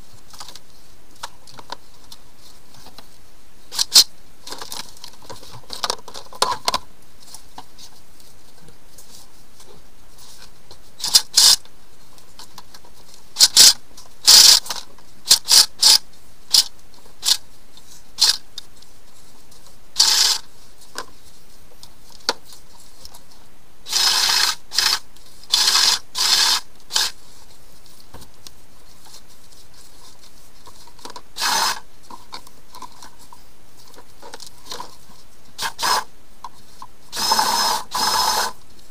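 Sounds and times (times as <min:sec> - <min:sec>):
scraping and rustling of hoses: 0:00.0 - 0:38.9.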